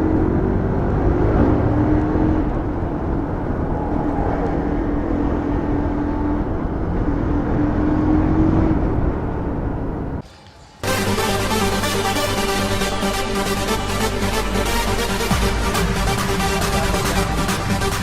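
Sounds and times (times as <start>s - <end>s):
road and traffic rumble: 0.0s - 18.0s.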